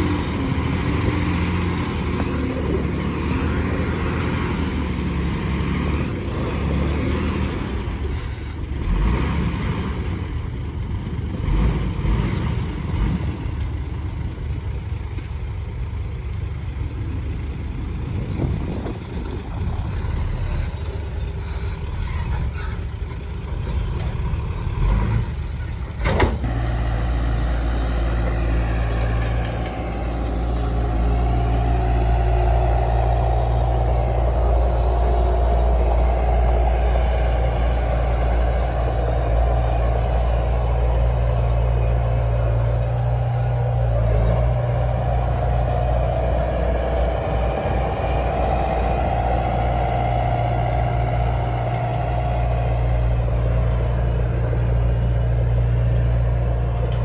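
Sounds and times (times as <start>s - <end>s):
heavy diesel engine working: 0.0s - 57.0s.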